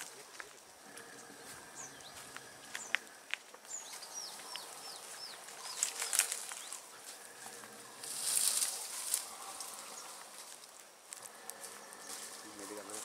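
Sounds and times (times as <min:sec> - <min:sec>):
rustling: 0:02.4 - 0:13.0.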